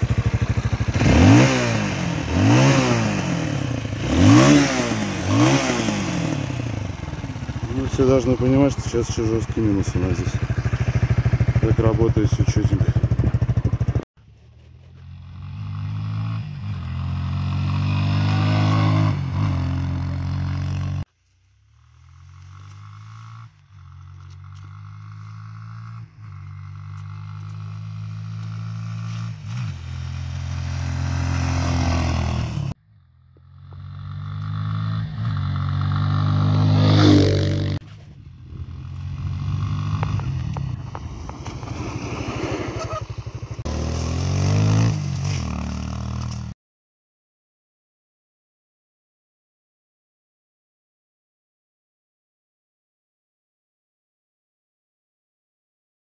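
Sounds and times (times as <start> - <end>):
motorcycle engine revving: 0.0 - 21.1, 21.7 - 46.6.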